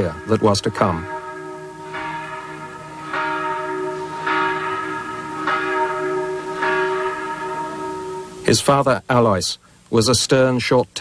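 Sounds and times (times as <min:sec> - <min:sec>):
church bell tolling: 0:00.0 - 0:09.0.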